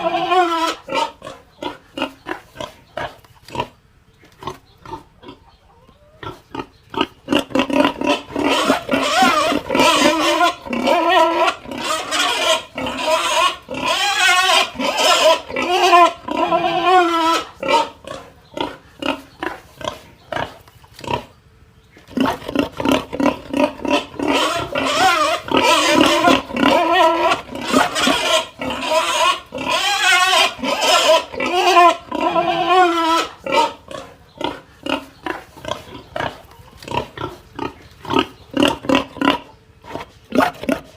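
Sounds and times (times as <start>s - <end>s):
pig squealing: 0.0s - 3.8s, 4.4s - 21.4s, 22.1s - 40.9s.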